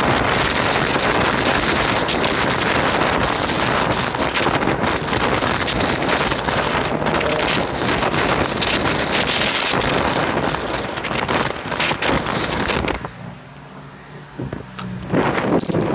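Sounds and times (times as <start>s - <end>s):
road and traffic noise: 0.0s - 15.9s
wind buffeting microphone: 0.0s - 15.9s.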